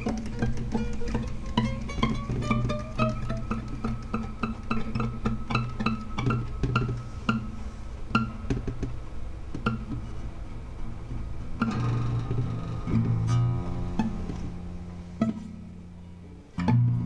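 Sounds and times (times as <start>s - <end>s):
plucked acoustic guitar notes: 0.0s - 17.0s.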